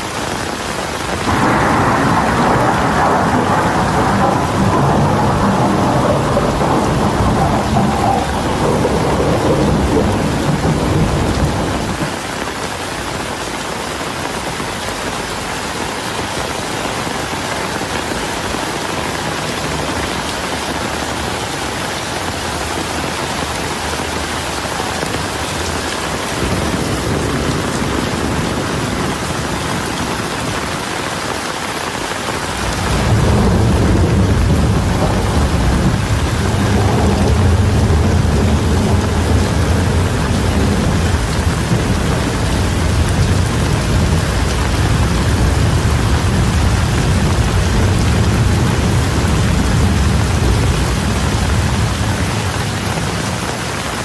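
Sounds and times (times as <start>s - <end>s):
heavy rain falling: 0.0s - 54.0s
rolling thunder: 0.5s - 13.5s, 16.2s - 30.9s, 31.9s - 54.0s.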